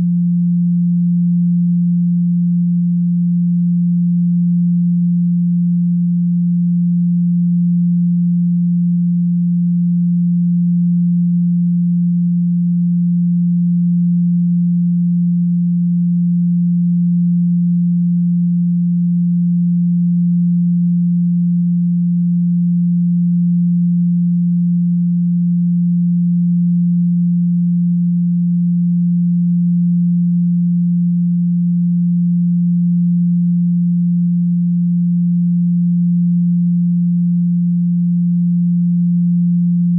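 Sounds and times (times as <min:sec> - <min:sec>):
steady pure sine tone: 0:00.0 - 0:39.9.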